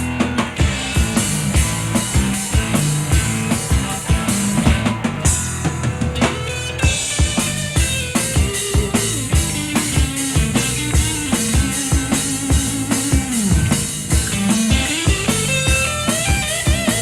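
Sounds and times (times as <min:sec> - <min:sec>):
bass: 0:00.0 - 0:17.0
drum kit beat: 0:00.0 - 0:17.0
keyboards: 0:00.0 - 0:17.0
sliding lead melody: 0:00.0 - 0:17.0.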